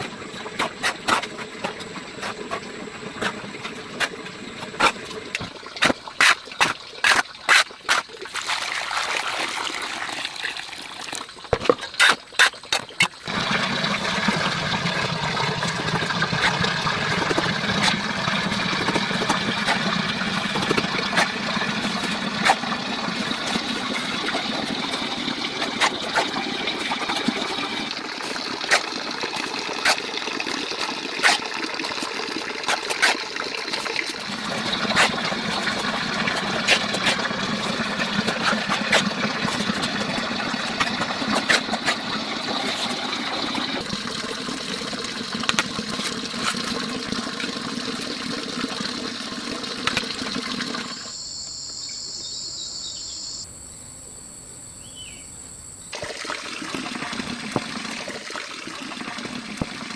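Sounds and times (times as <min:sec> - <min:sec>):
water trickling: 0:00.0 - 0:51.2.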